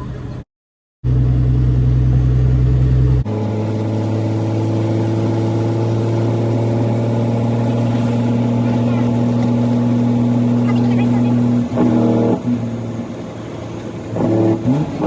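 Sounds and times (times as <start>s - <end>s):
diesel truck engine drone: 0.0s - 0.4s, 1.0s - 15.0s.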